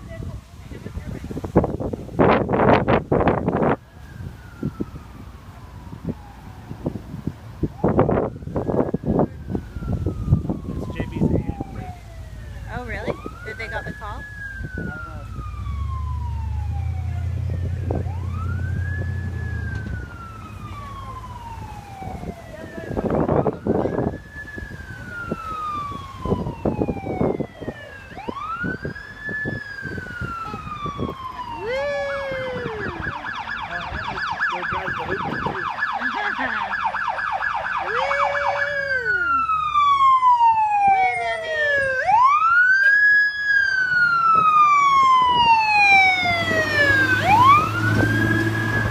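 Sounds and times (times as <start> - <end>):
electronic siren wailing and yelping: 7.6 - 48.9.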